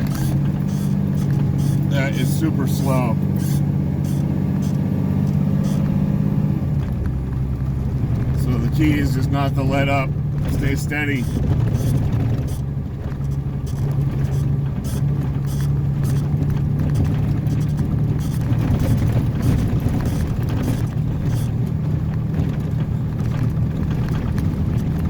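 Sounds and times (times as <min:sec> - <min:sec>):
truck engine running under load: 0:00.0 - 0:25.0.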